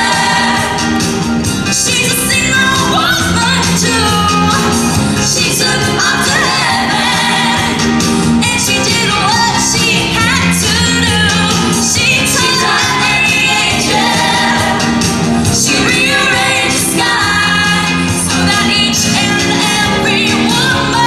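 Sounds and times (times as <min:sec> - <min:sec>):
live band playing pop song: 0:00.0 - 0:21.0.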